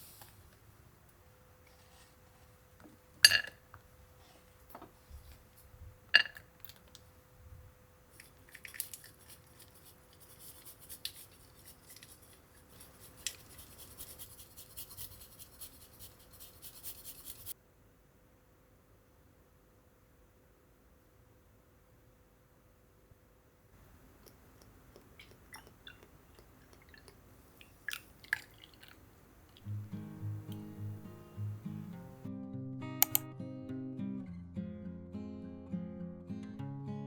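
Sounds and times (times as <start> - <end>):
faint steady hum: 0.0 - 32.3.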